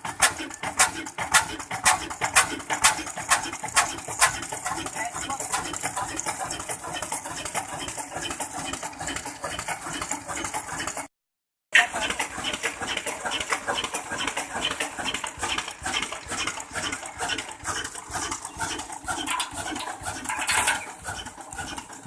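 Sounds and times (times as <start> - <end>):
chaff-cutter machine clattering: 0.0 - 11.1, 11.8 - 22.0.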